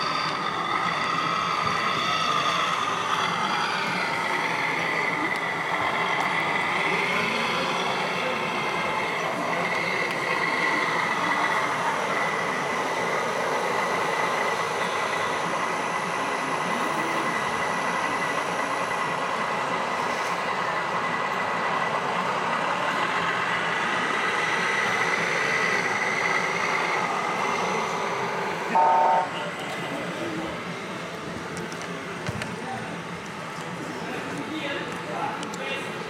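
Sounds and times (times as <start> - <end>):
constant background din: 0.0 - 36.0.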